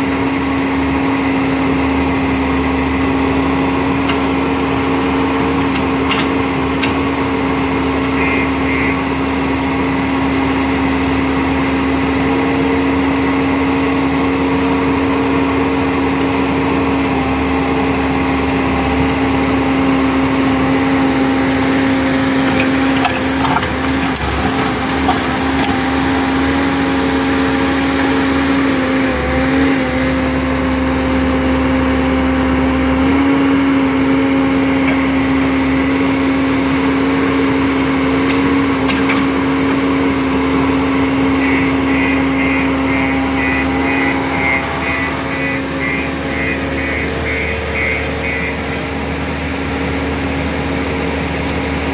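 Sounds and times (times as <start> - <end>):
skid steer loader engine running: 0.0 - 51.9.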